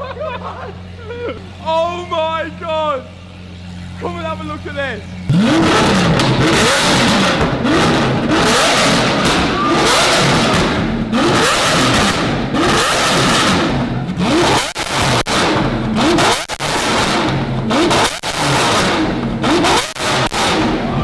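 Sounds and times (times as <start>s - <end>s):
car engine revving: 0.0s - 21.0s
exhaust cracks: 0.0s - 21.0s.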